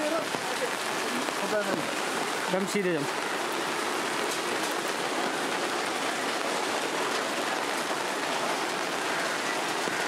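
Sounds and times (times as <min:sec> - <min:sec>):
heavy rain on wet pavement: 0:00.0 - 0:10.0.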